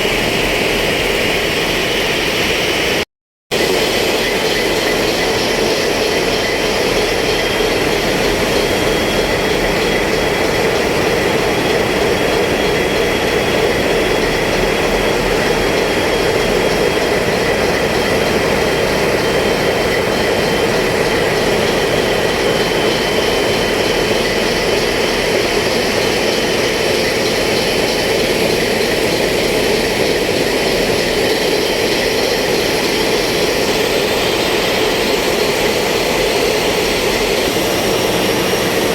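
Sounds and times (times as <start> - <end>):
ship diesel engines droning: 0.0 - 38.9.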